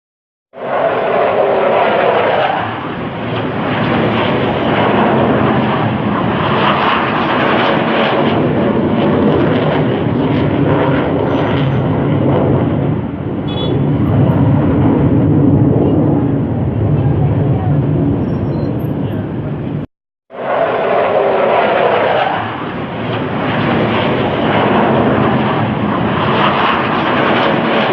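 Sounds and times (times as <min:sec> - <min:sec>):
fighter jets flying over: 0:00.6 - 0:27.9.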